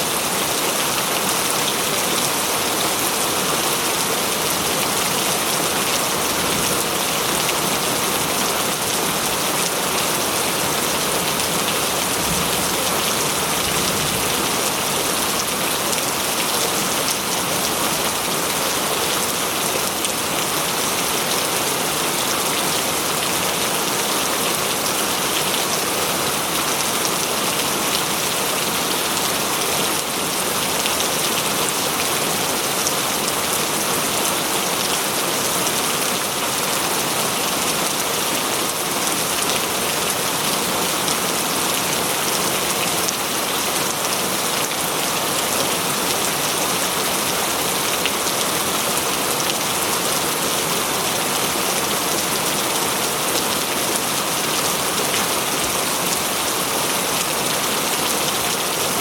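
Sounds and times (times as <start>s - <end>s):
rain pattering on surfaces: 0.1s - 59.0s.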